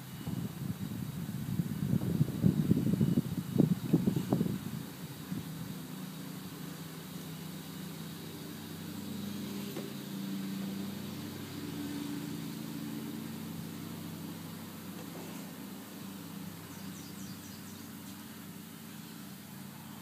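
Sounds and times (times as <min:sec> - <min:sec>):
engine hum: 0:00.0 - 0:20.0.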